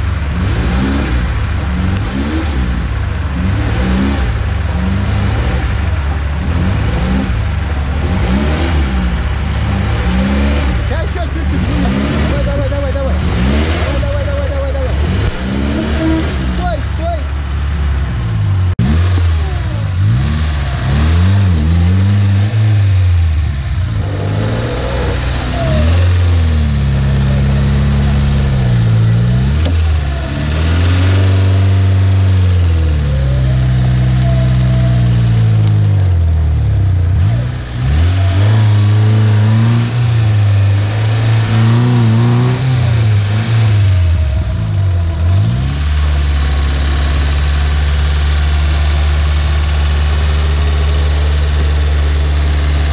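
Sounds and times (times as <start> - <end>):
off-road vehicle engine revving: 0.0 - 52.9.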